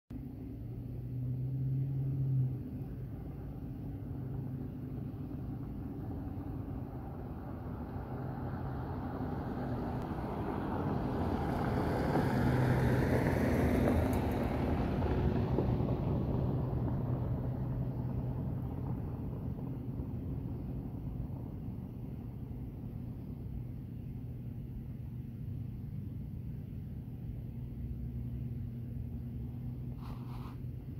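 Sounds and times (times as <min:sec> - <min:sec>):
steady low hum: 0:00.1 - 0:11.4, 0:16.1 - 0:30.9
vehicle passing by: 0:00.2 - 0:23.7, 0:25.4 - 0:30.9.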